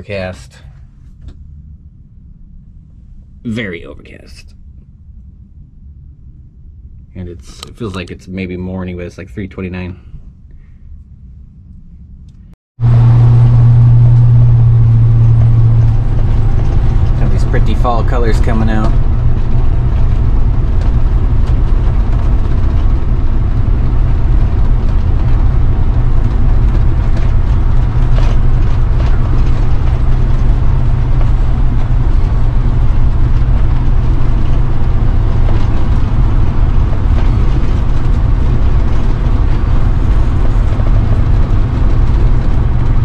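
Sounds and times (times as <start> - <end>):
engine and road rumble: 0.0 - 43.0.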